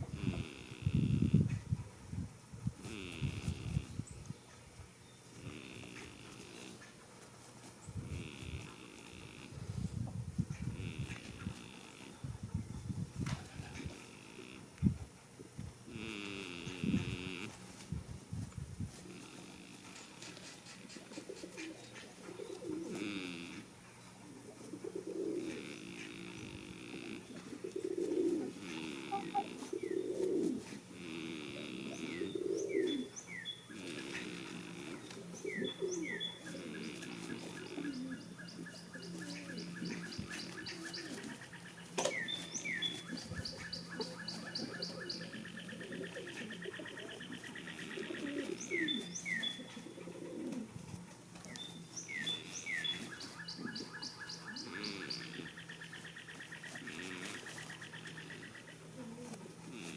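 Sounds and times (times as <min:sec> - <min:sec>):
goat snoring: 0:00.0 - 0:01.7, 0:02.6 - 0:04.1, 0:05.3 - 0:59.9
small birds singing: 0:02.8 - 0:14.8, 0:18.3 - 0:59.9.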